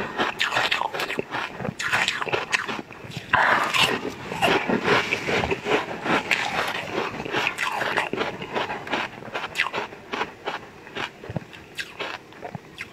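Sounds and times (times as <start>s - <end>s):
crunchy chewing: 0.0s - 12.9s
mouth clicks: 0.2s - 12.9s.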